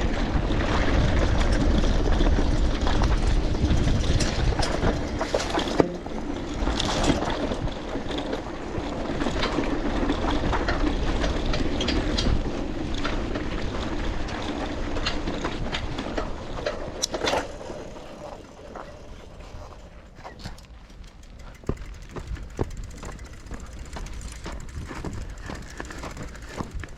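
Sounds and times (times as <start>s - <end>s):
bicycle tyres rumbling: 0.0s - 26.9s
bike rattling clicks and knocks: 0.0s - 26.9s
wind: 0.0s - 26.9s.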